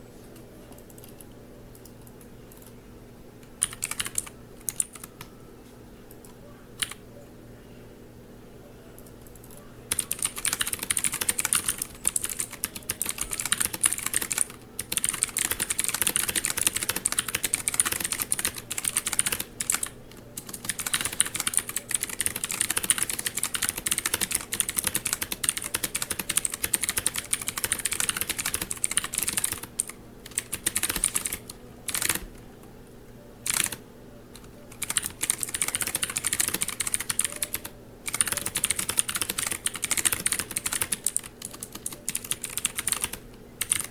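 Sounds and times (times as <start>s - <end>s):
mechanical keyboard typing: 3.4s - 5.3s, 6.1s - 7.0s, 9.0s - 32.4s, 33.4s - 43.9s.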